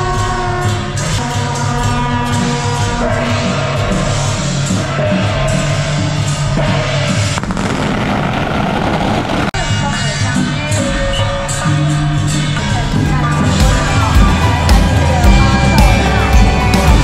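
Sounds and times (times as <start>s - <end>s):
low rhythmic beat: 0.0s - 8.4s, 9.6s - 17.0s
procession band playing: 0.0s - 17.0s.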